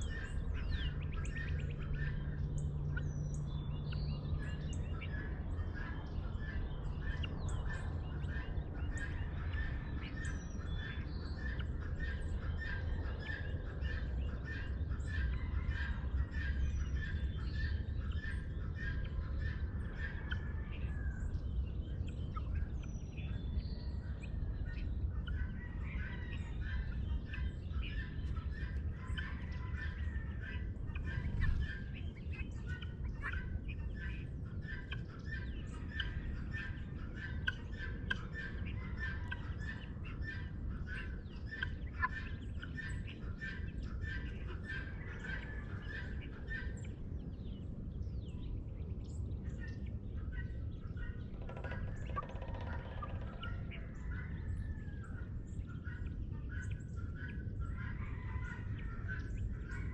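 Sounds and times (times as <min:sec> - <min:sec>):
bird chirping repeatedly: 0:00.0 - 0:20.4, 0:21.3 - 0:54.6
steady low rumble: 0:00.0 - 0:59.9.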